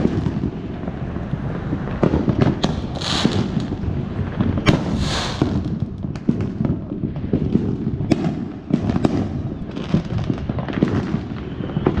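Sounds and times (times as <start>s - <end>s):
distant fireworks booms and crackling: 0.0s - 12.0s
nearer firework bangs and pops: 0.0s - 12.0s.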